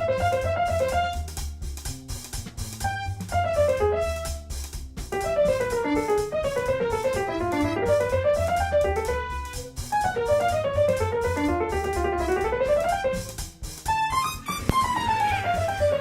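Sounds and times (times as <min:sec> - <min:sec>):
fast piano runs: 0:00.0 - 0:01.4, 0:02.7 - 0:16.0
steady drum beat and bass: 0:00.0 - 0:16.0.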